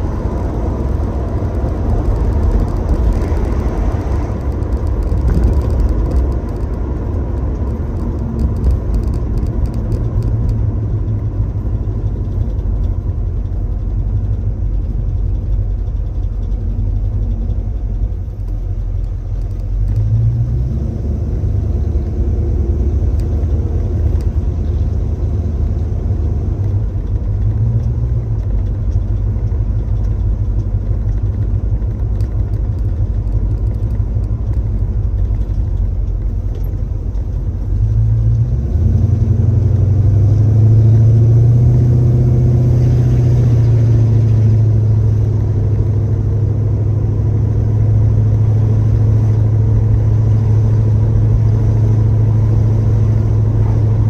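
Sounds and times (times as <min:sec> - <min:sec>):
car engine running: 0:00.0 - 0:54.0
road noise: 0:00.0 - 0:54.0.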